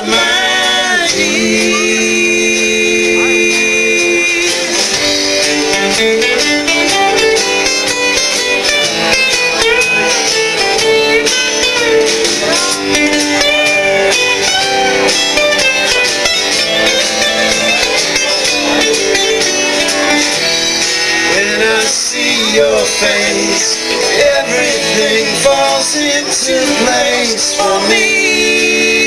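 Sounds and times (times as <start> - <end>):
drums: 0.0 - 29.0
guitars: 0.0 - 29.0
live band playing: 0.0 - 29.0.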